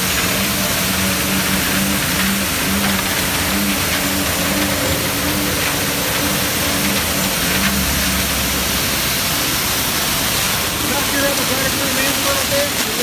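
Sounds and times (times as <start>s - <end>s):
brooms sweeping rocks: 0.0s - 13.0s
steady hiss: 0.0s - 13.0s
street sweeper engine running: 0.0s - 13.0s.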